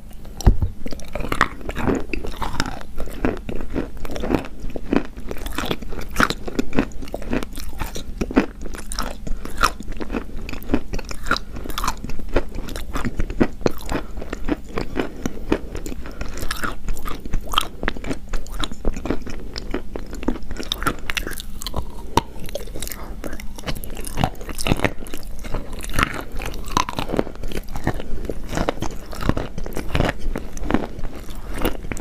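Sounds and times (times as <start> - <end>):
chalk being chewed: 0.2 - 32.0.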